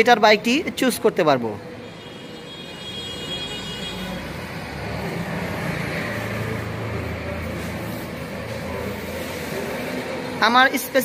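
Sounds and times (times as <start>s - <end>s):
road traffic engine rumble: 0.4s - 11.0s.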